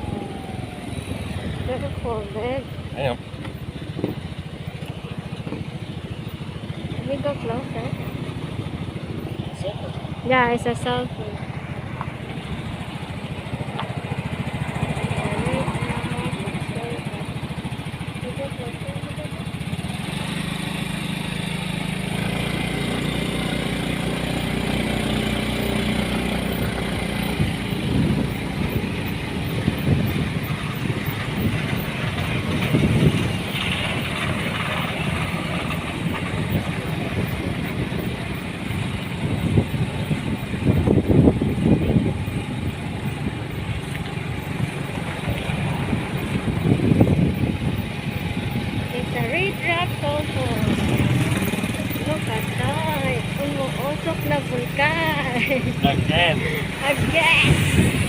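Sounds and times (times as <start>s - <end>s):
road noise hiss: 0.0s - 58.0s
vehicle engine running: 0.0s - 58.0s.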